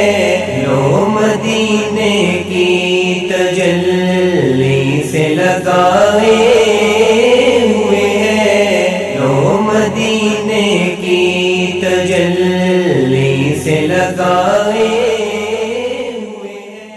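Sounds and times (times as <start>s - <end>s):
low vocal drone: 0.0s - 16.9s
male wordless humming chant: 0.0s - 16.9s.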